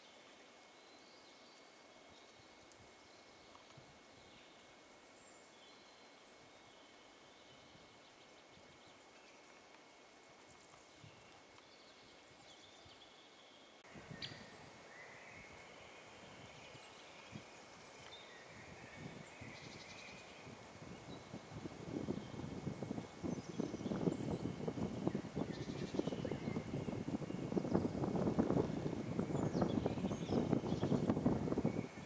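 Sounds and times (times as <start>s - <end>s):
distant small birds calling: 0.0s - 32.0s.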